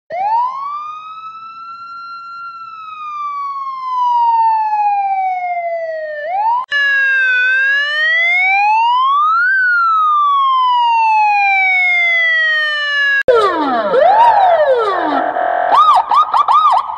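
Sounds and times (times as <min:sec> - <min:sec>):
police siren wailing: 0:00.1 - 0:16.9.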